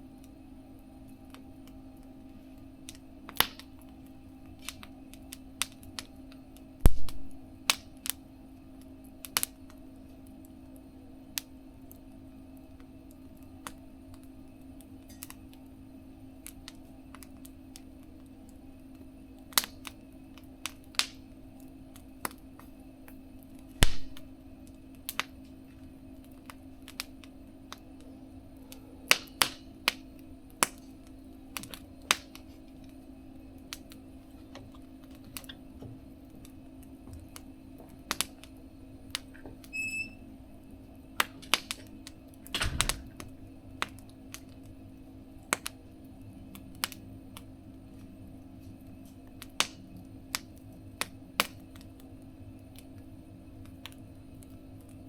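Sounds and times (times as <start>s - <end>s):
steady low hum: 0.0s - 55.0s
wood fire crackling and popping: 0.0s - 55.0s.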